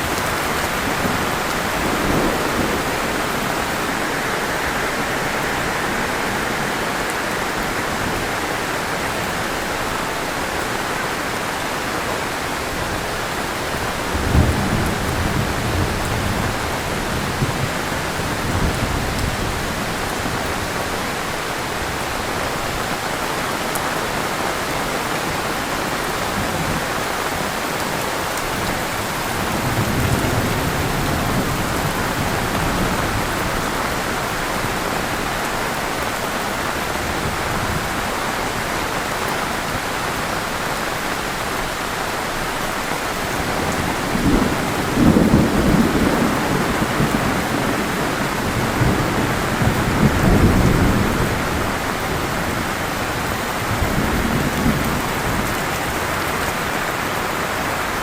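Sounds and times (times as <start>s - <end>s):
rolling thunder rumbling: 0.0s - 23.4s, 24.1s - 39.0s, 43.2s - 56.0s
heavy rain pouring: 0.0s - 58.0s.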